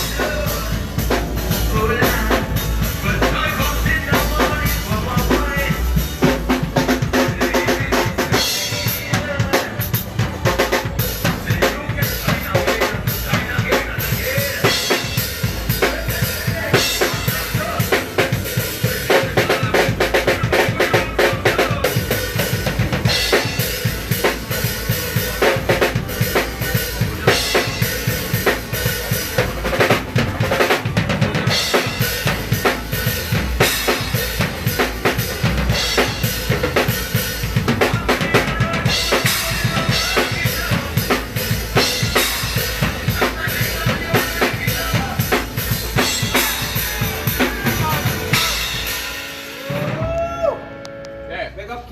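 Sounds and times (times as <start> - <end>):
drum kit playing fast groove: 0.0 - 50.7.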